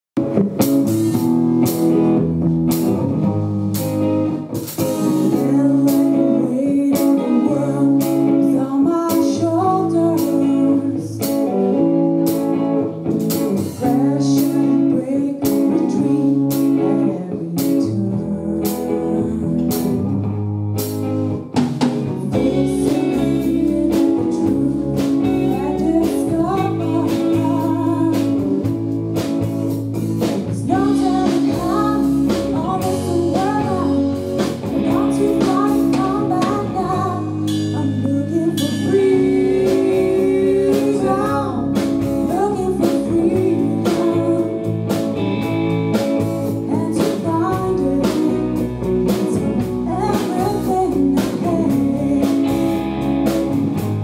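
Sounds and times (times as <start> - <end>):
bass guitar: 0.0 - 54.0
electric guitars: 0.1 - 54.0
drum kit beat: 0.2 - 8.4, 9.0 - 18.0, 18.6 - 54.0
person singing: 4.7 - 20.2, 22.1 - 53.3.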